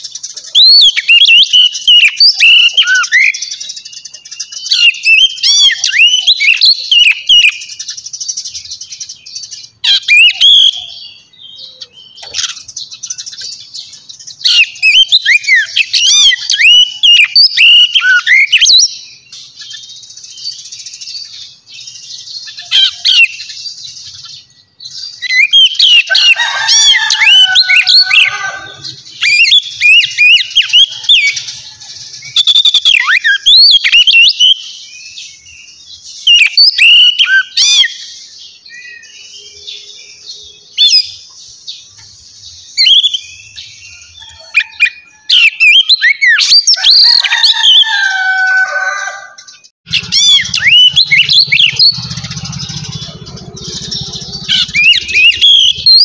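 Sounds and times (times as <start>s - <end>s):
harsh bird call: 0.0s - 56.0s
small birds chirping: 0.0s - 56.0s.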